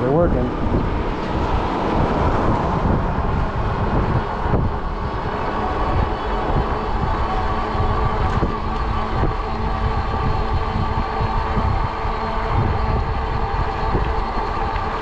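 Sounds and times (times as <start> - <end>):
e-bike riding rumble: 0.0 - 15.0.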